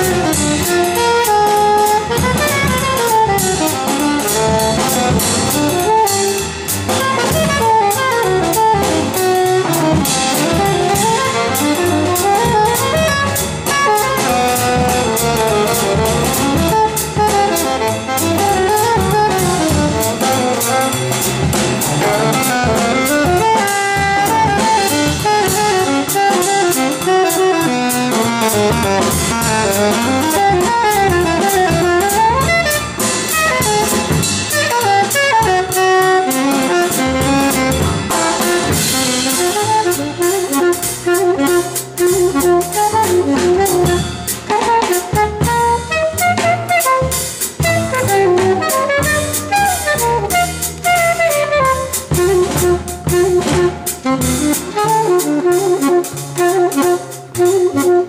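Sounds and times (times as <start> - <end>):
alto saxophone jazz line: 0.0 - 58.0
drum kit: 0.0 - 58.0.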